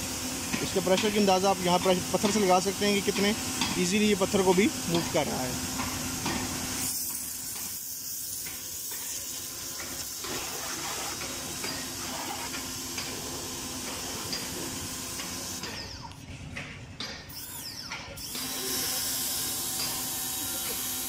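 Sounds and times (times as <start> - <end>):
pressure washer spraying concrete: 0.0 - 15.9, 18.4 - 21.0.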